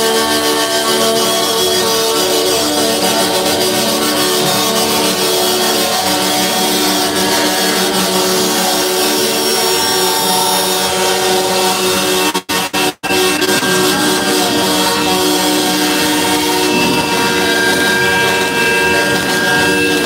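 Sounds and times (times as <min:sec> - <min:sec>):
truck air horns chord: 0:00.0 - 0:20.0.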